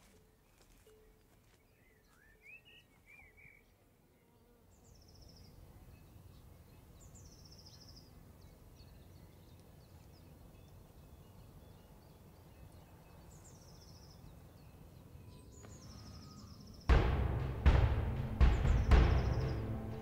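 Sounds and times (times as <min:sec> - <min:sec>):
bird chirps: 0:00.5 - 0:03.8, 0:04.8 - 0:16.9, 0:18.4 - 0:20.0.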